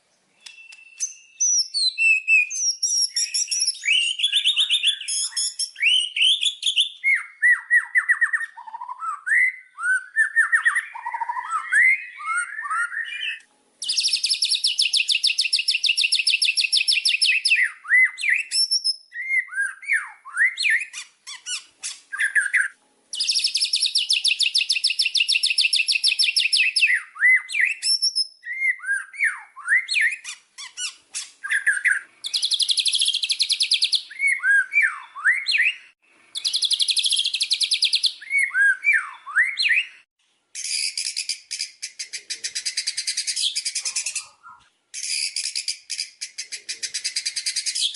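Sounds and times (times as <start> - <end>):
songbird whistling and clicking: 0.3 - 40.0, 40.6 - 47.9.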